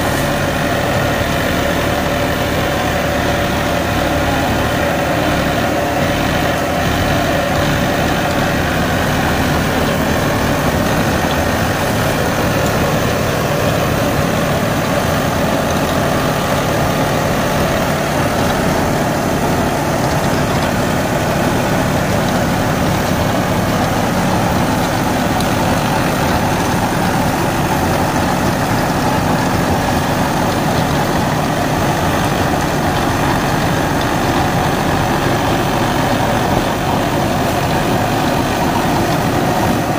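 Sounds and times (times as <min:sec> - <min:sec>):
rotavator blades churning: 0:00.0 - 0:39.9
tractor diesel engine under load: 0:00.0 - 0:39.9.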